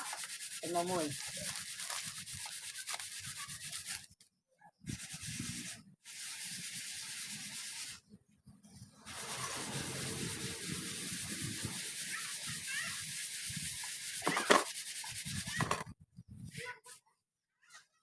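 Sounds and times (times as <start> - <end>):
scraping strokes on a surface: 0.0 - 4.1, 4.8 - 8.1, 8.7 - 15.9.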